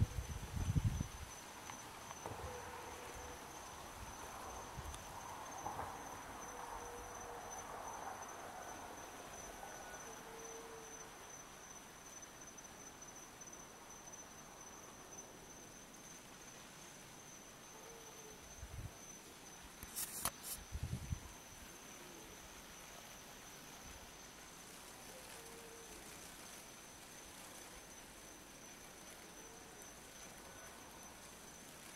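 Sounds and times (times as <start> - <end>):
night insects trilling: 0.0 - 31.9
soft background hiss: 0.0 - 31.9.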